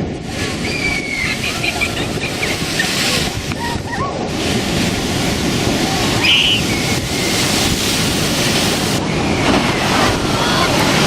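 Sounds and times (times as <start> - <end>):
waves breaking: 0.0 - 11.0.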